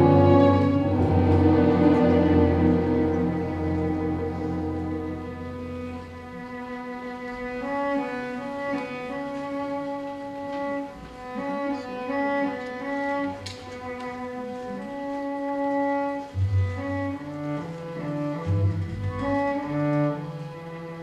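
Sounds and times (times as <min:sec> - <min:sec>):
orchestra with bowed strings: 0:00.0 - 0:21.0.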